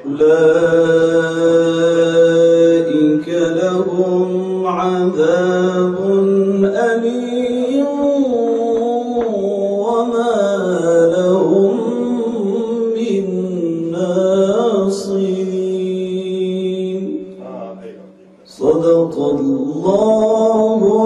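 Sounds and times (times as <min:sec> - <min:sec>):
man chanting a recitation: 0:00.0 - 0:21.0.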